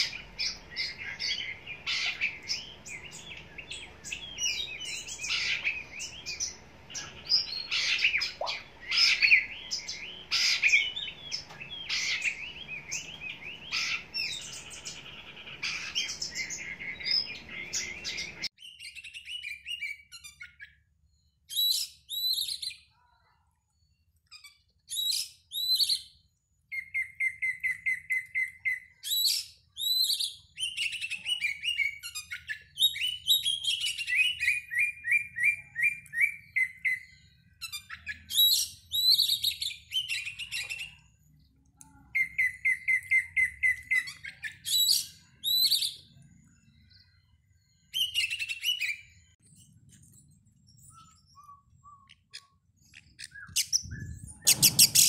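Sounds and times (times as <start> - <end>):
bird singing whistles and chirps: 0.0 - 22.9, 24.3 - 55.0.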